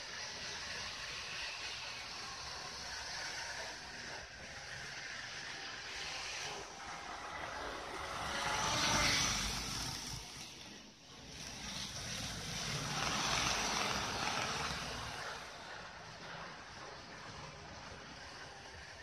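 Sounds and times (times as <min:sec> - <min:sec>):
model train motor whir and rumble: 0:00.0 - 0:19.0.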